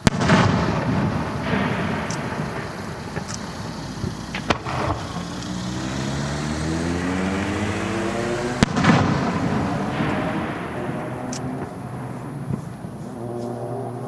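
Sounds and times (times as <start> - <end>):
firework crack: 0.0 - 14.0.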